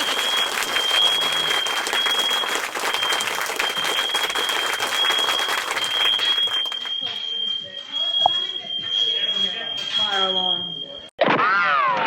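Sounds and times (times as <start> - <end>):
fire alarm tone: 0.0 - 11.2.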